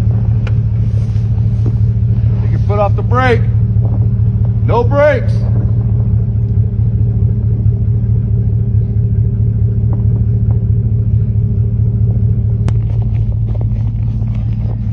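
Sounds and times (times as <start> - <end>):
vehicle engine idling: 0.0 - 14.9.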